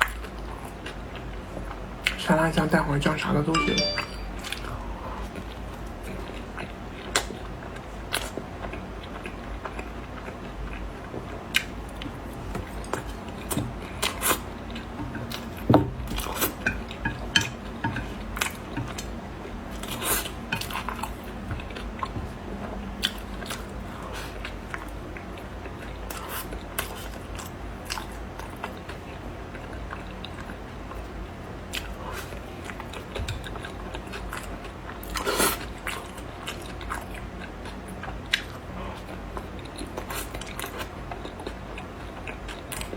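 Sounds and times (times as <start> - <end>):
person chewing food: 6.3 - 31.0, 31.7 - 42.9.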